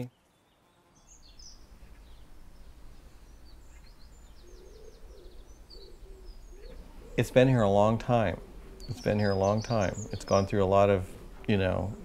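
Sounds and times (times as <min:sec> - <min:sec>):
small birds chirping: 0:00.0 - 0:12.0
steady low background noise: 0:00.0 - 0:12.0.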